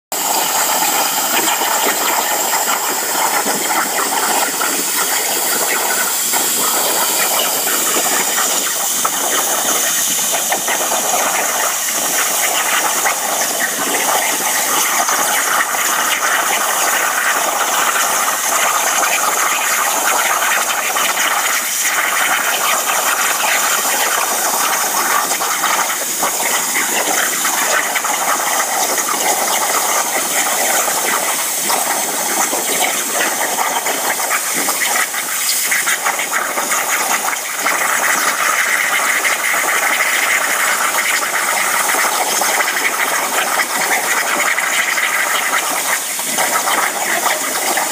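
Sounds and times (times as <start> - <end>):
plasma cutter hissing: 0.2 - 47.9.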